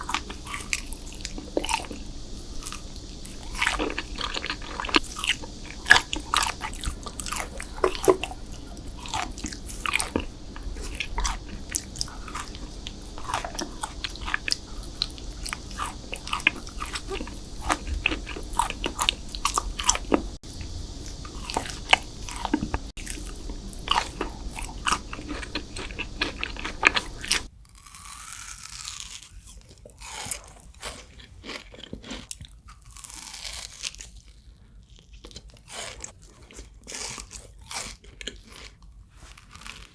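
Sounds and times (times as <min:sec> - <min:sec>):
crunching and chewing sweets: 0:00.0 - 0:39.9.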